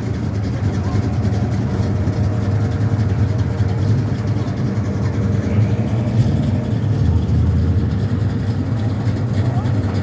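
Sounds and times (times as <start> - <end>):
car engine idling low rumble: 0.0 - 10.0.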